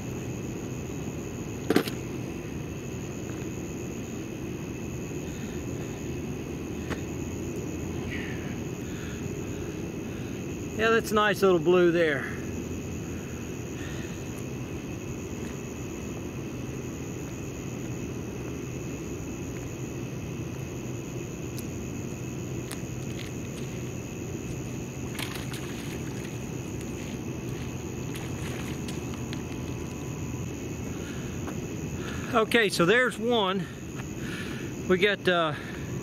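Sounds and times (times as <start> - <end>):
low outdoor rumble: 0.0 - 36.0.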